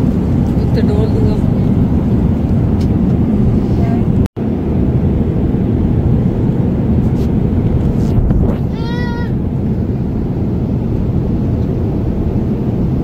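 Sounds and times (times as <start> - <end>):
jet engines in airliner cabin: 0.0 - 13.0
rushing air: 0.0 - 13.0.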